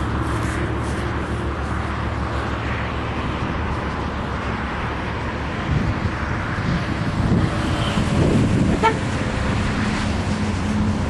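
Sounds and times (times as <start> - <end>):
road noise: 0.0 - 11.0
vehicle engine hum: 0.0 - 11.0.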